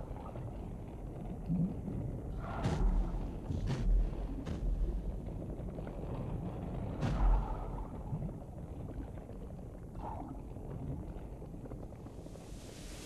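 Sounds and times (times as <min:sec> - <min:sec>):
low underwater rumble: 0:00.0 - 0:13.0.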